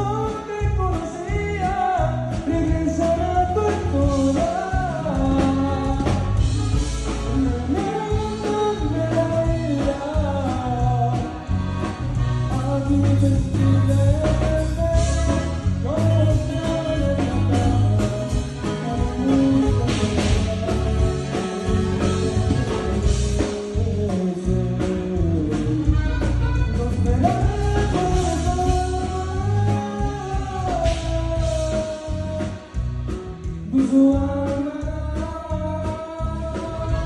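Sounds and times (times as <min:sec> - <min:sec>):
bass and drum beat: 0:00.0 - 0:37.0
button accordion melody: 0:00.0 - 0:37.0.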